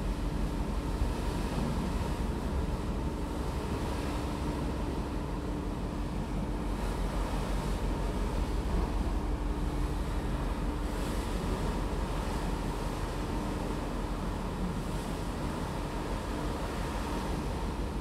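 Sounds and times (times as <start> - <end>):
faint steady hum: 0.0 - 18.0
ferry engine rumble: 0.0 - 18.0
rush of wind and water: 0.0 - 18.0.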